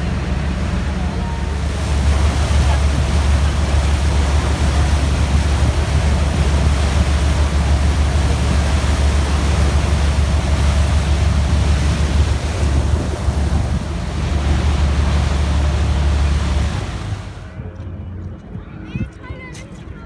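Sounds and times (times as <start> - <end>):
wind rushing over microphone: 0.0 - 17.5
steady low rumble: 0.0 - 17.6.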